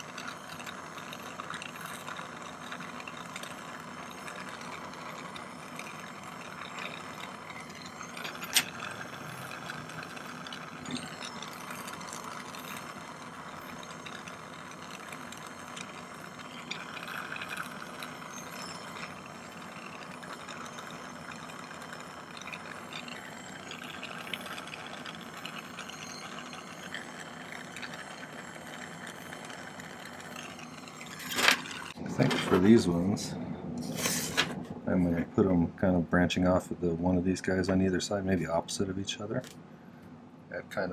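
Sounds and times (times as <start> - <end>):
torch flame hissing: 0.0 - 34.9.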